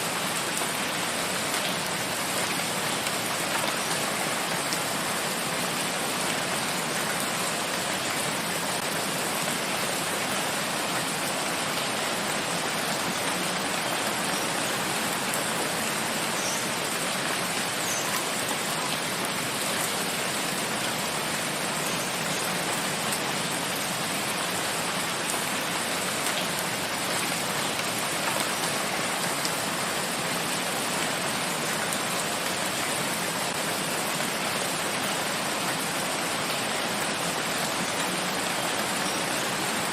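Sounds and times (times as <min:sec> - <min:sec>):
steady rain in a forest: 0:00.0 - 0:39.9.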